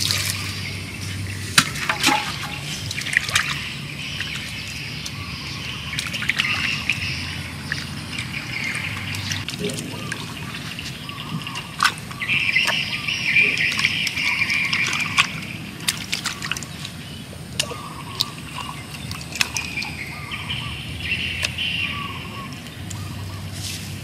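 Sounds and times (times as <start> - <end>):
sharp wet clicks: 0.0 - 23.6
wet sloshing and squishing: 0.0 - 24.0.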